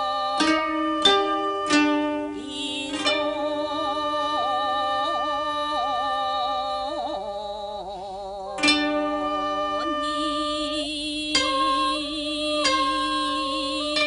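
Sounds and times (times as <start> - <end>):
wavering melodic tones: 0.0 - 14.0.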